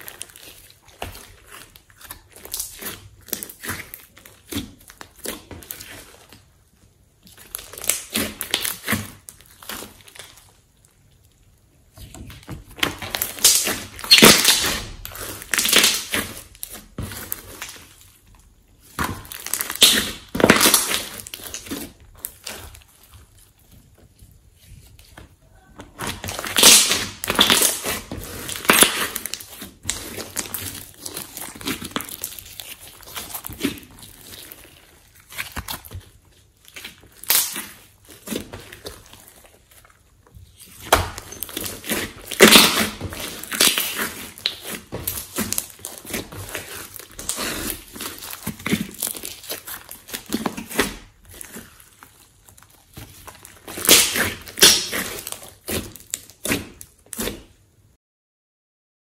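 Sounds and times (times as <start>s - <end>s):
slime squelching and popping: 0.0s - 57.6s.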